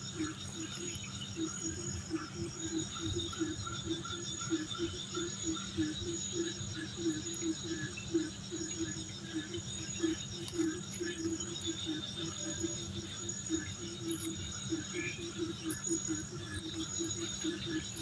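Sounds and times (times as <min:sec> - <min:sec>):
insect low pulsing call: 0:00.0 - 0:18.0
insects high-pitched trill: 0:00.0 - 0:18.0.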